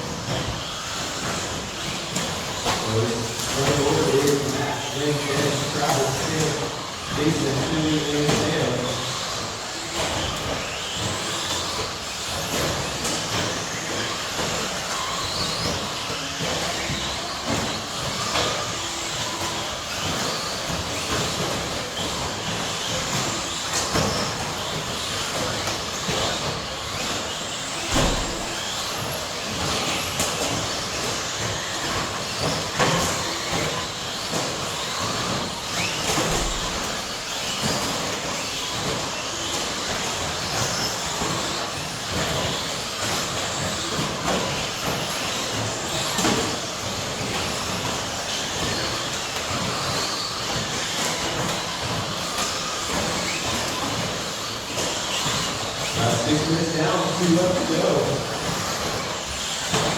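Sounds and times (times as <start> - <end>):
electric model trucks racing: 0.0 - 59.9.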